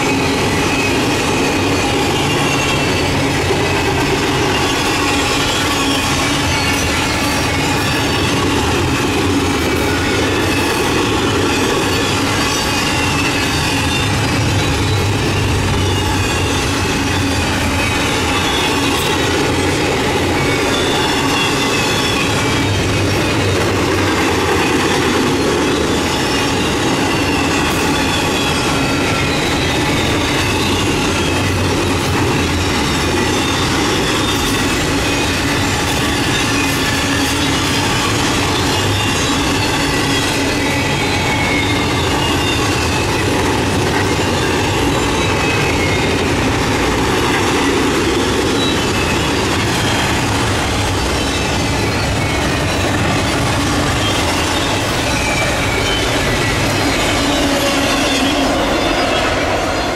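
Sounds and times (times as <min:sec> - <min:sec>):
high wheel squeal: 0:00.0 - 0:59.9
train wheels rumbling on rails: 0:00.0 - 0:59.9.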